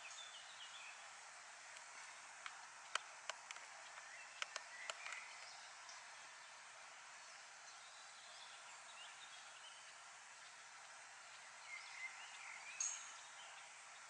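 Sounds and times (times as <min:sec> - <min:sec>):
distant birds chirping: 0:00.0 - 0:14.0
steady outdoor hiss: 0:00.0 - 0:14.0.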